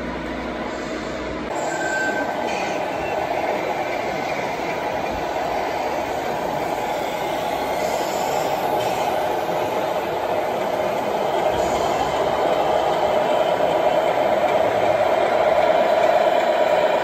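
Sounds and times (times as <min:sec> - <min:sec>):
model trucks mechanical noise: 0:00.0 - 0:17.0.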